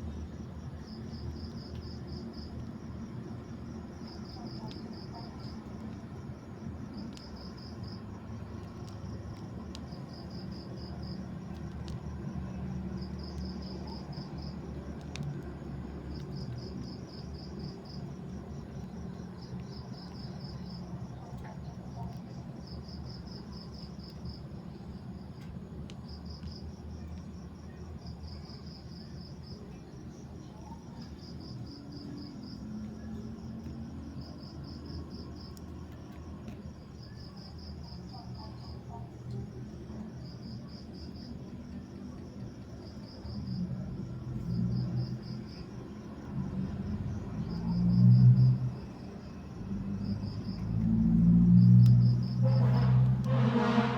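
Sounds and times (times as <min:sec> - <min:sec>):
cricket chirping: 0:00.0 - 0:53.9.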